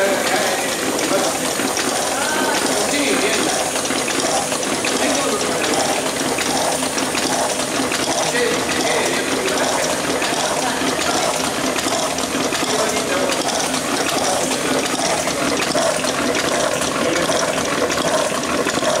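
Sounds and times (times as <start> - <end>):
machine rattling with small clicks: 0.3 - 19.0.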